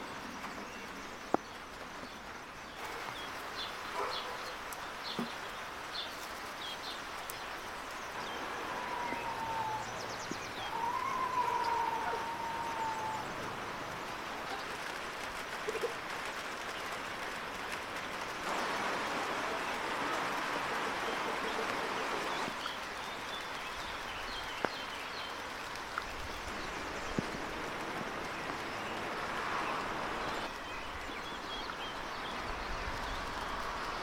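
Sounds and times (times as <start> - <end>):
steady noisy hiss: 0.0 - 34.0.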